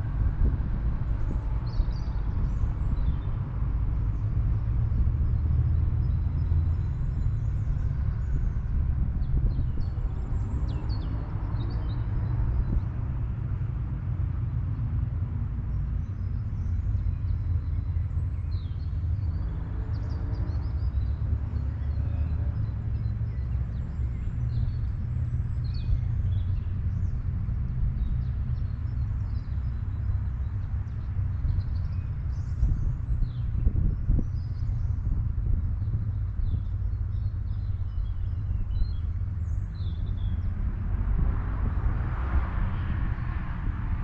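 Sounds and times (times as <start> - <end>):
low rumble: 0.0 - 44.0
small birds chirping: 0.3 - 13.7, 15.8 - 41.3.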